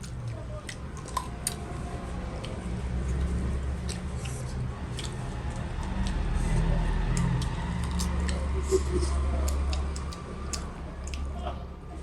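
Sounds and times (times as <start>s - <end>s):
eating clicks and chewing: 0.0s - 12.0s
construction machine engine hum: 1.6s - 12.0s.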